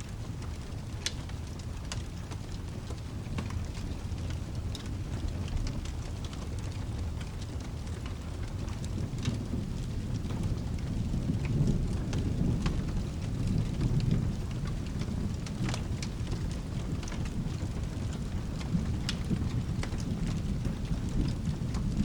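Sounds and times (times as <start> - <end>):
rain: 0.0 - 22.0
thunder rumbling: 2.8 - 22.0.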